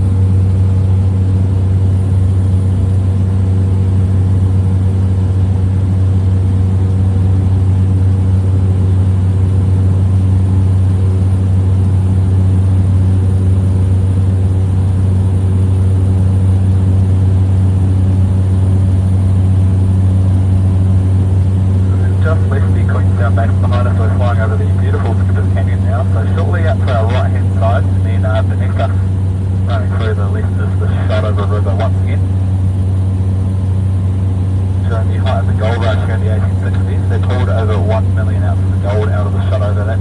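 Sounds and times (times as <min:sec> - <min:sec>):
small plane engine drone: 0:00.0 - 0:40.0.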